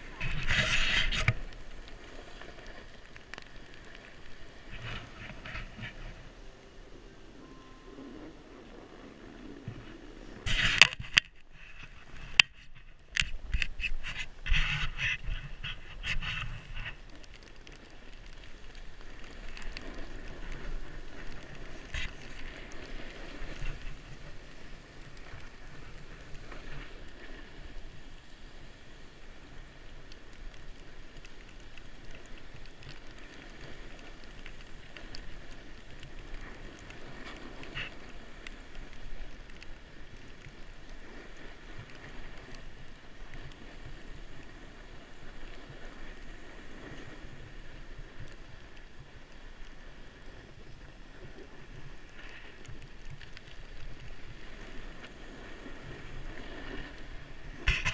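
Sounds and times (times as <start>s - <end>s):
skis scraping on snow: 0.0s - 57.9s.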